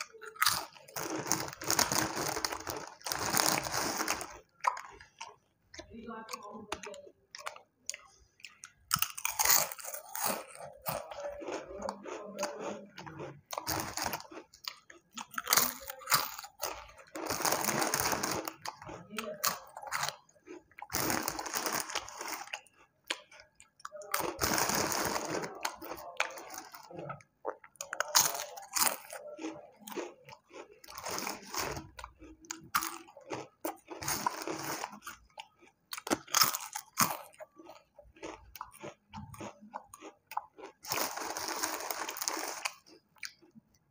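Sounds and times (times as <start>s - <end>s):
crunching and chewing snack: 0.0s - 43.9s.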